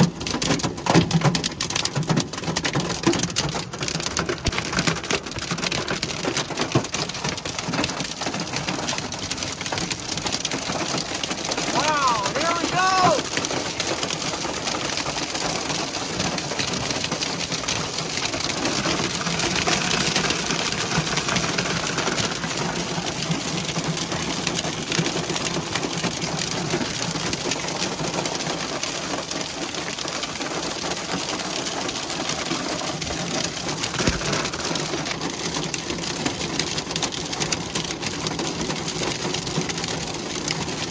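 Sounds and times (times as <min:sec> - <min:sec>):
hail and rain pelting a vehicle: 0:00.0 - 0:40.9.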